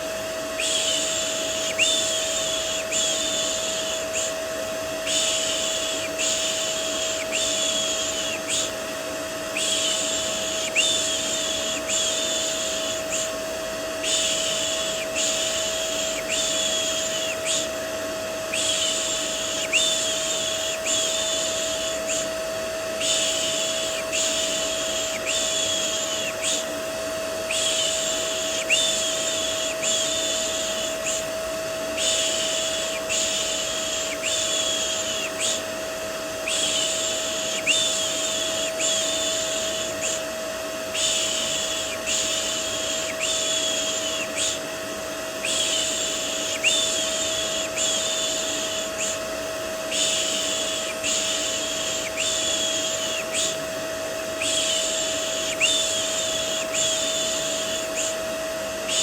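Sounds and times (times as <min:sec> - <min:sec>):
vacuum cleaner hiss and whine: 0:00.0 - 0:59.0.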